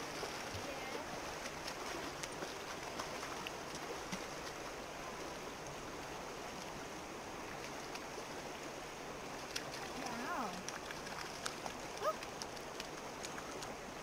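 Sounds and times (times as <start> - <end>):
river rushing over gravel: 0.0 - 14.0.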